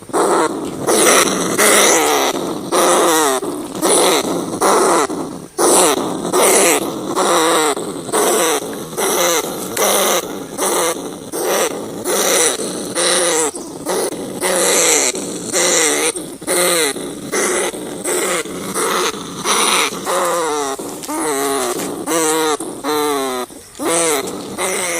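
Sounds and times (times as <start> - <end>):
rats squealing distress calls: 0.0 - 24.9.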